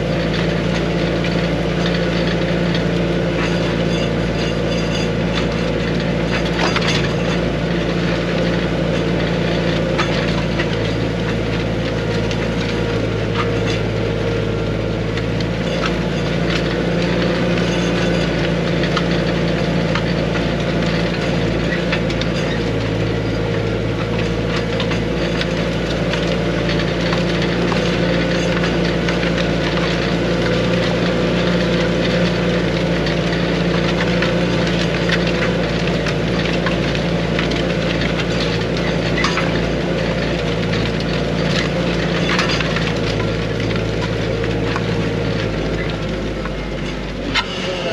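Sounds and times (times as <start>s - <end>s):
clicks and rattles from harrow: 0.0s - 47.9s
tractor engine running under load: 0.0s - 47.9s.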